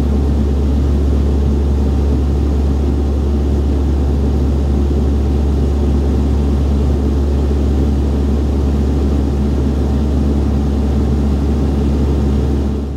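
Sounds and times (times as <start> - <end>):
turboprop cabin drone: 0.0 - 12.9.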